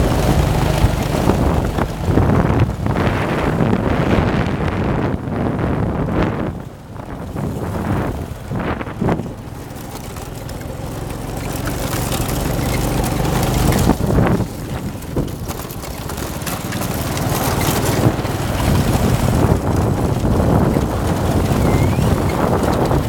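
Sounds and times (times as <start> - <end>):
go-kart engine running: 0.0 - 23.0
wind buffeting microphone: 0.0 - 23.0.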